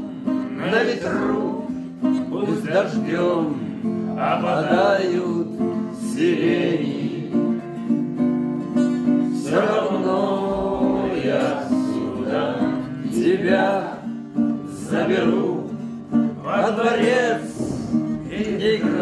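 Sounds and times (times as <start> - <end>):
person singing: 0.0 - 7.6, 9.3 - 19.0
strummed acoustic guitar: 0.0 - 19.0.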